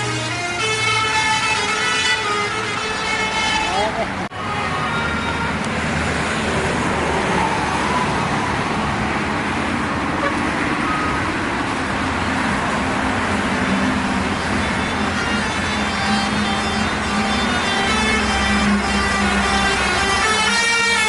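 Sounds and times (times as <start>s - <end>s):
tyre and road noise: 0.0s - 21.0s
vehicle engine drone: 0.0s - 21.0s.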